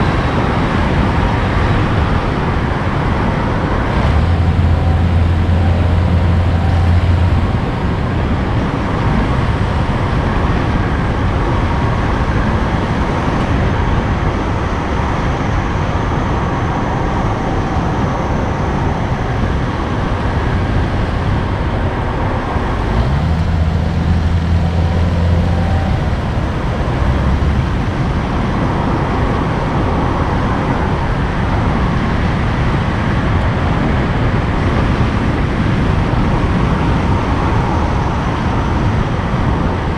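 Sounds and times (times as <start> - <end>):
low engine drone: 0.0 - 39.9
vehicle engine and road noise: 0.0 - 39.9.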